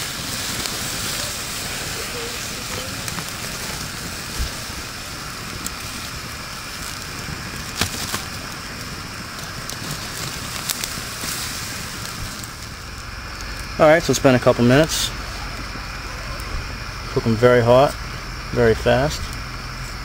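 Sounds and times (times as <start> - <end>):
campfire burning with hiss: 0.0 - 20.0
fire crackling pops: 0.0 - 20.0.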